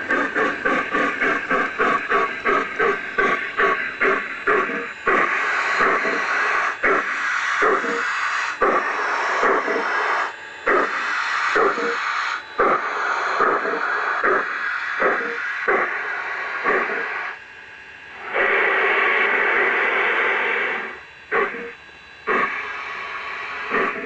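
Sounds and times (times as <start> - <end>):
model train rushing noise: 0.0 - 17.4, 18.2 - 24.0.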